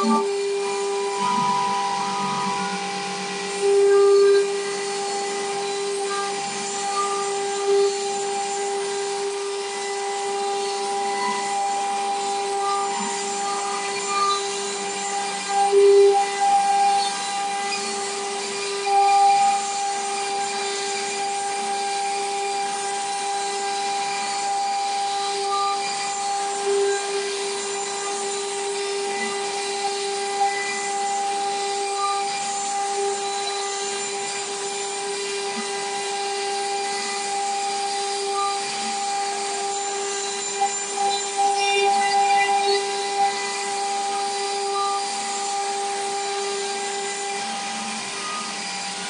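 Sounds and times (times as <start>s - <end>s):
router spindle whine: 0.0s - 49.0s.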